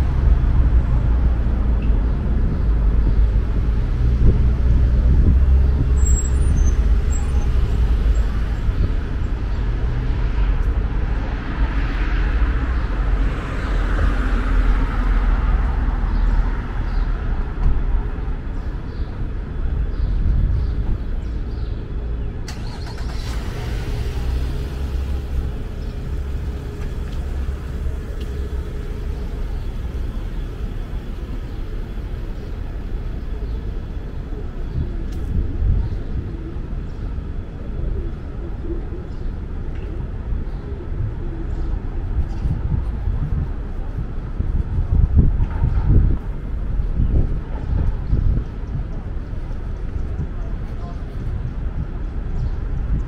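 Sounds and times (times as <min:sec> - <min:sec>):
low traffic rumble: 0:00.0 - 0:53.0
vehicles passing close by: 0:00.0 - 0:53.0.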